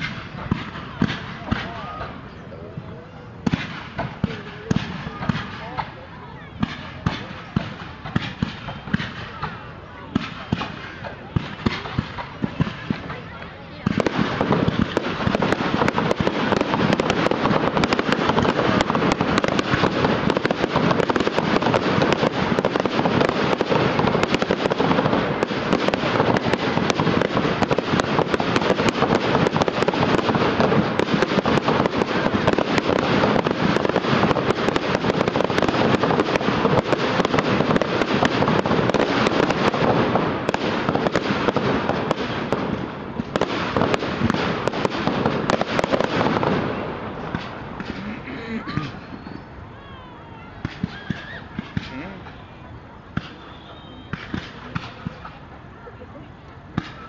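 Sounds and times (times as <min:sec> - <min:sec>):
fireworks bangs and pops: 0:00.0 - 0:49.6, 0:50.4 - 0:57.0.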